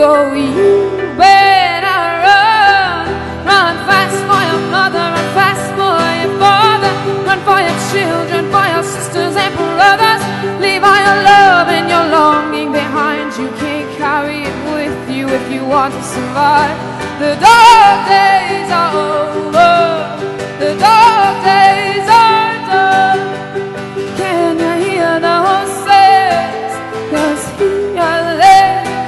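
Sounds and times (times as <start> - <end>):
acoustic guitar: 0.0 - 29.0
woman singing: 0.0 - 29.0.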